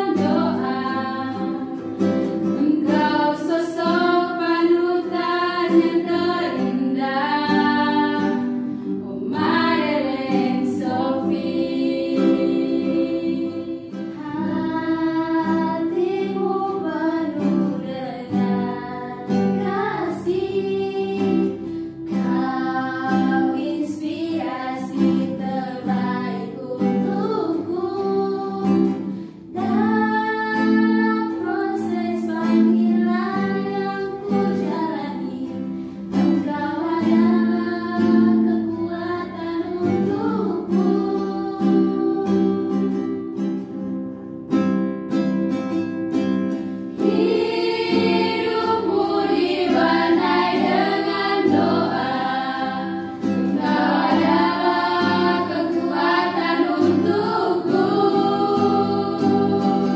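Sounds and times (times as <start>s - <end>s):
women singing a hymn: 0.0s - 43.3s, 46.9s - 59.9s
acoustic guitar: 0.0s - 59.9s.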